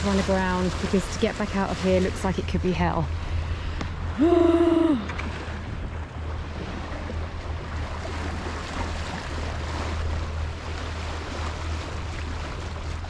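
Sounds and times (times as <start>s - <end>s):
boat engine humming: 0.0s - 13.0s
water rushing: 0.0s - 13.0s.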